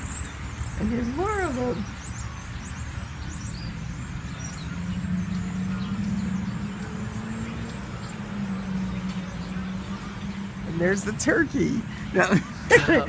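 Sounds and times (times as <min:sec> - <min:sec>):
birds chirping: 0:00.0 - 0:13.0
low traffic rumble: 0:00.0 - 0:13.0.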